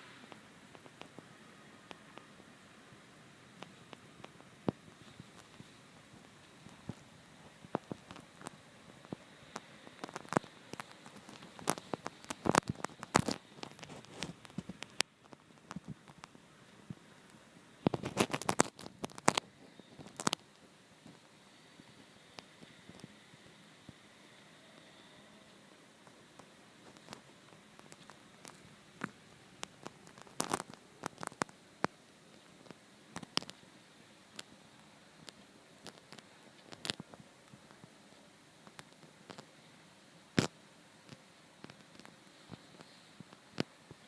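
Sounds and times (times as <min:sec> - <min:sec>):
crackle: 0:00.0 - 0:44.0
faint hiss: 0:00.0 - 0:44.0.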